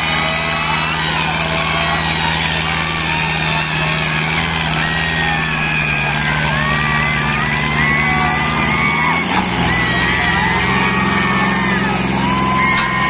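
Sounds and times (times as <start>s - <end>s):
tractor engines running under load: 0.0s - 13.0s.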